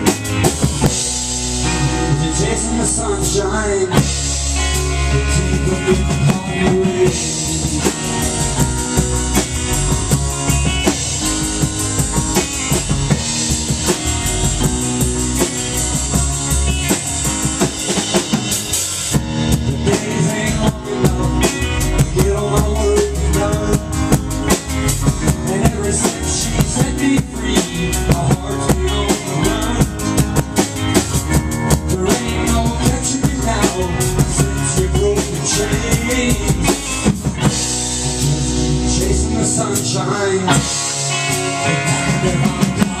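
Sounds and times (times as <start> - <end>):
drum kit beat: 0.0 - 43.0
rock band playing: 0.0 - 43.0.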